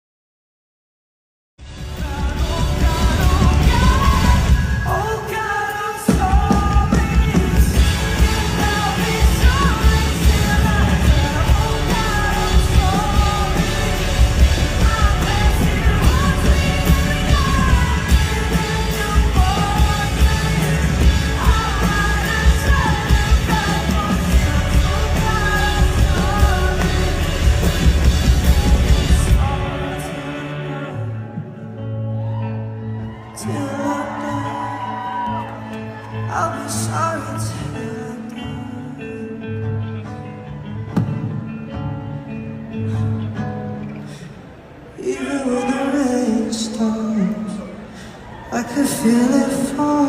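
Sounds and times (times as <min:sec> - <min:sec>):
live pop-rock band: 0:01.6 - 0:50.0
person singing: 0:01.7 - 0:44.4, 0:45.0 - 0:50.0.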